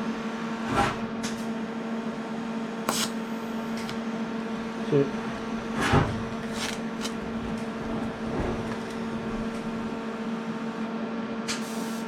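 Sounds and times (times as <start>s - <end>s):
welder electrical hum and hiss: 0.0s - 10.8s, 11.4s - 12.0s.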